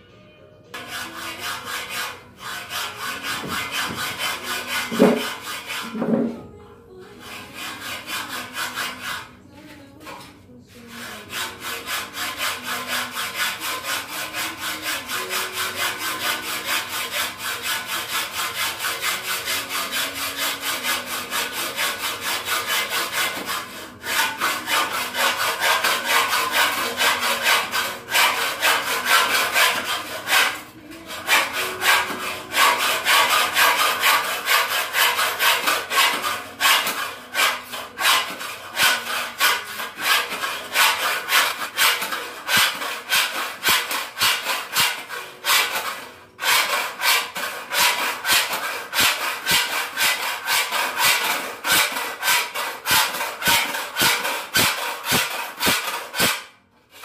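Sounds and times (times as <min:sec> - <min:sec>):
hand saw cutting wood: 0:00.8 - 0:06.4, 0:07.2 - 0:09.4, 0:10.1 - 0:57.0.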